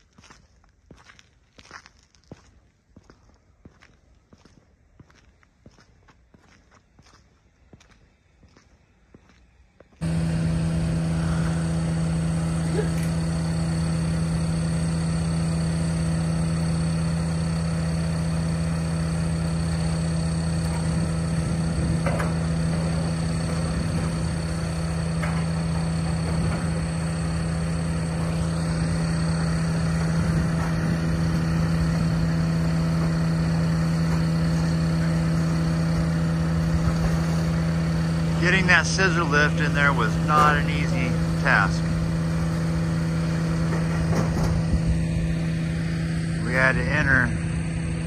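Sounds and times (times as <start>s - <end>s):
engine humming: 6.7s - 48.0s.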